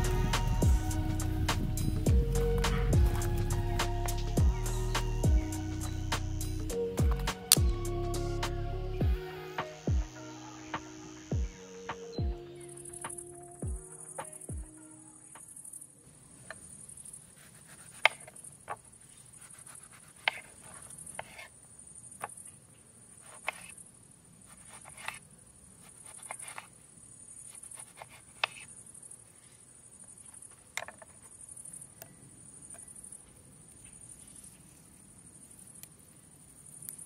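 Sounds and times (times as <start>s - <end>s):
insect chorus: 0.0s - 37.0s.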